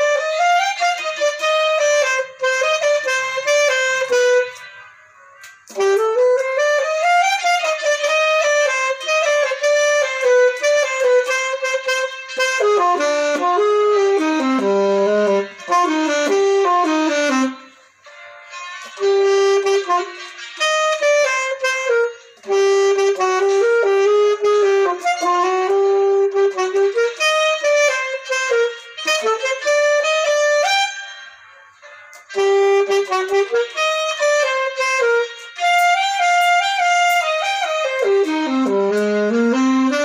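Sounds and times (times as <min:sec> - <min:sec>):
solo saxophone melody: 0:00.0 - 0:18.1, 0:18.8 - 0:40.0.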